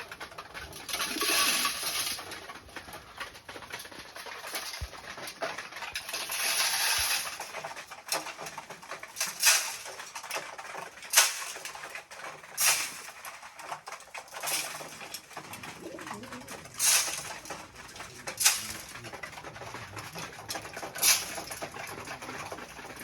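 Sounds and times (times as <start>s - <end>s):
pigeons scuffling and rustling: 0.0s - 23.0s.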